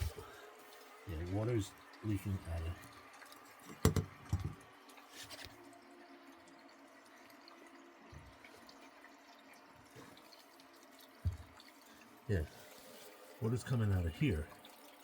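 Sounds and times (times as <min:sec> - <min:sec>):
water trickling and dripping into bowl: 0:00.0 - 0:15.0.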